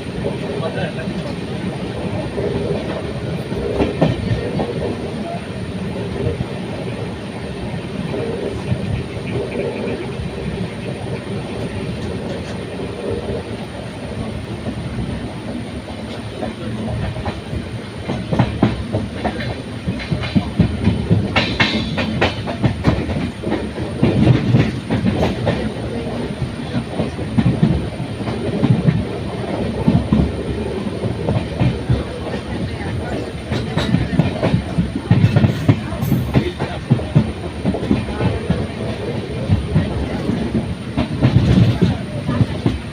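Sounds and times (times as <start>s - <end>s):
train wheels clattering: 0.0s - 42.9s.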